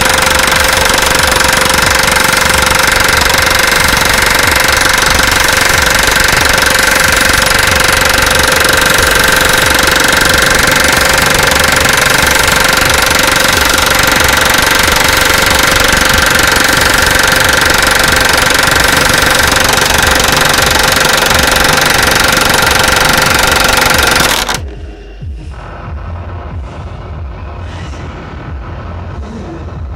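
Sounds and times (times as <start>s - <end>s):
machine whining: 0.0s - 24.9s.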